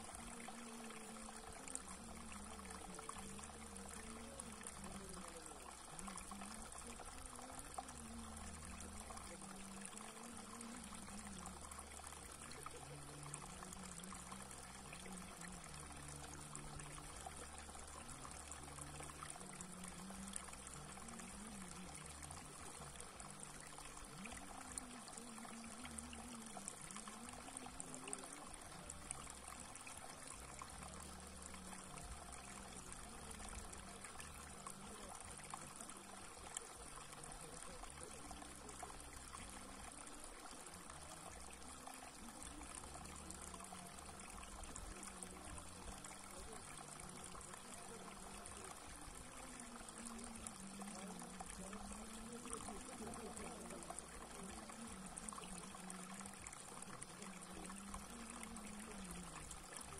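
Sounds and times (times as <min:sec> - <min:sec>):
water trickling over rocks: 0:00.0 - 0:59.9.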